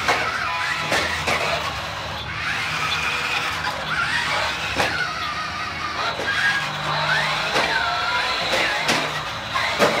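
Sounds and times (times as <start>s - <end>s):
simulated engine sound from speaker: 0.0s - 10.0s
toy truck motor and gears whirring: 0.0s - 10.0s.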